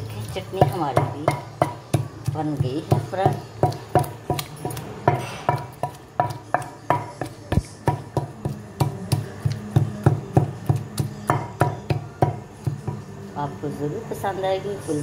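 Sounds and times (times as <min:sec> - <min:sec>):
wooden pestle pounding in mortar: 0:00.2 - 0:13.0.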